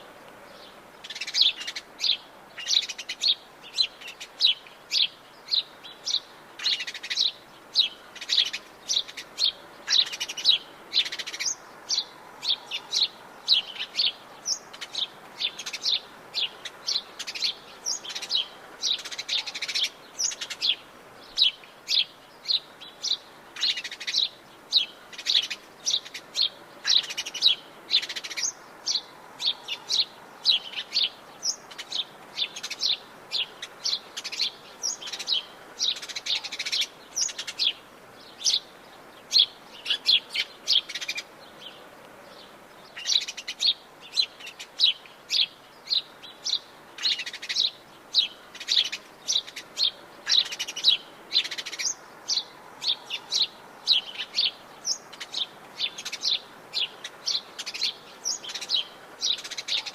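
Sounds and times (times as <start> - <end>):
faint steady background hiss: 0.0 - 59.9
birds chirping and singing: 0.4 - 59.9.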